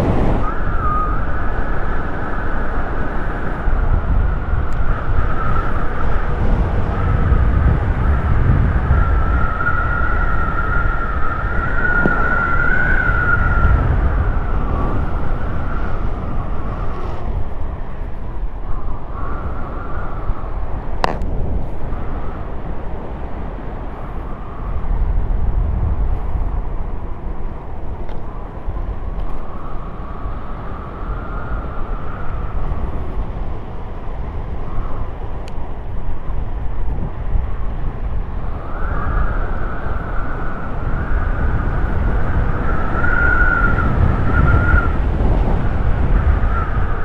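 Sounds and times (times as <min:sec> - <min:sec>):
wavering high whine: 0:00.0 - 0:47.0
wind rushing over microphone: 0:00.0 - 0:47.0.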